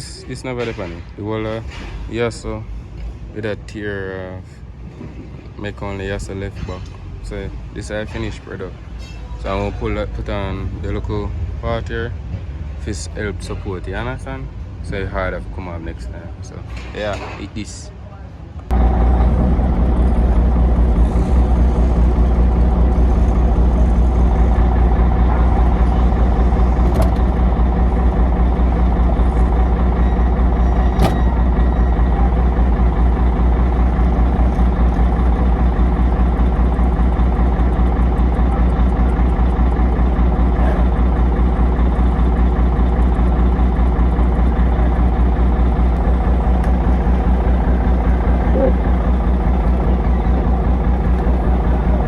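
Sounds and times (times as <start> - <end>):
heavy vehicle engine running: 0.0 - 17.4, 18.6 - 52.0.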